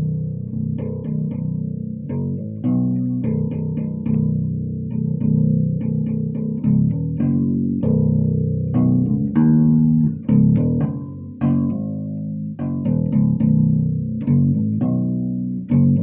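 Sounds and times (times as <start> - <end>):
fretless bass guitar plucked notes: 0.0 - 16.0.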